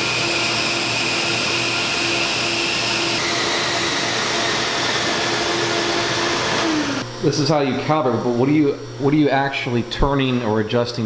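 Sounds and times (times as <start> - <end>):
vacuum pumps rushing air: 0.0 - 9.3.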